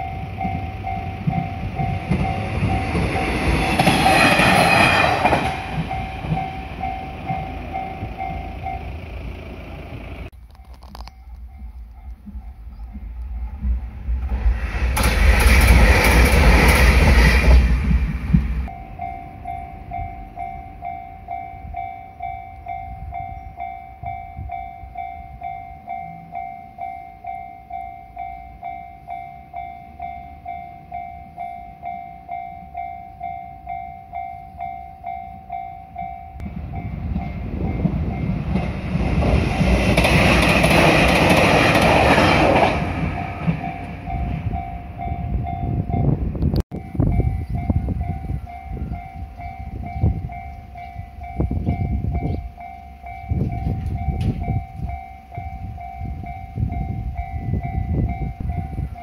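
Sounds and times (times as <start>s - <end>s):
level crossing warning bell: 0.0s - 13.7s, 18.6s - 59.0s
diesel train passing: 0.0s - 59.0s.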